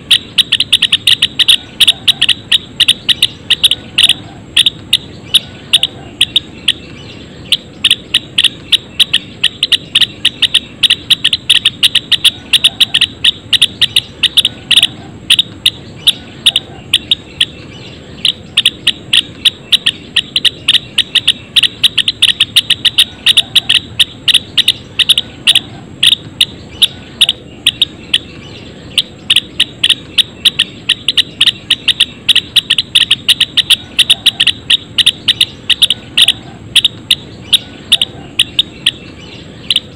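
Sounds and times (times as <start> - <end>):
flock of sparrows chirping: 0.0 - 39.9.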